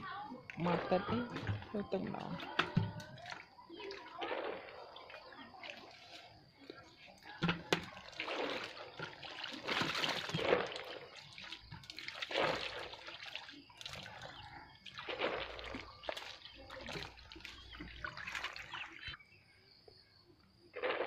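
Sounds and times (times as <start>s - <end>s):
frogs splashing water: 0.1s - 19.2s, 20.7s - 21.0s.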